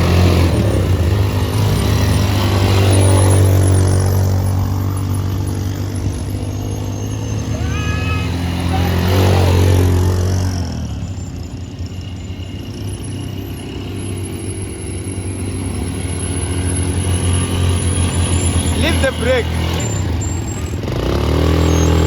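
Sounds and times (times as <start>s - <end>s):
vehicle engine and road hum: 0.0s - 22.0s.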